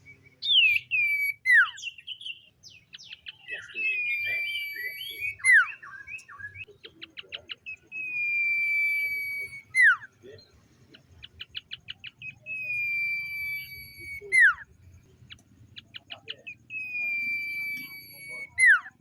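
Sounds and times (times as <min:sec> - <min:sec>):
bird whistling: 0:00.0 - 0:10.2, 0:11.2 - 0:19.0
bird chips: 0:00.0 - 0:19.0.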